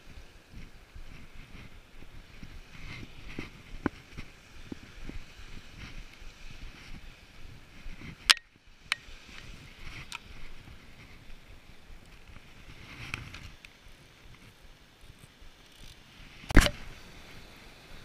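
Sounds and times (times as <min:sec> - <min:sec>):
surf: 0:00.0 - 0:18.0
wind: 0:00.0 - 0:18.0.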